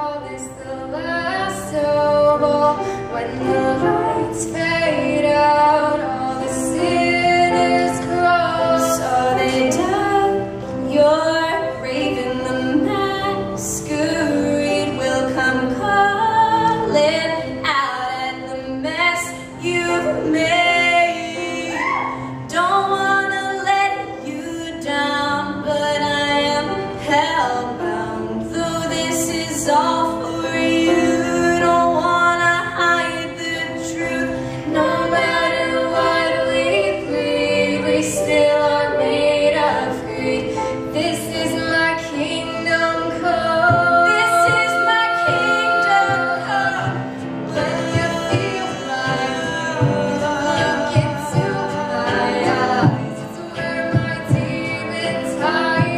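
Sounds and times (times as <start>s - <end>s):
piano: 0.0s - 55.9s
women singing in harmony: 0.0s - 55.9s.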